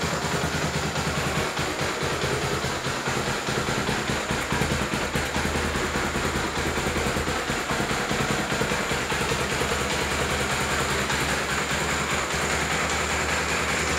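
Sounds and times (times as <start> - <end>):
motorcycle engine idling: 0.0 - 13.9.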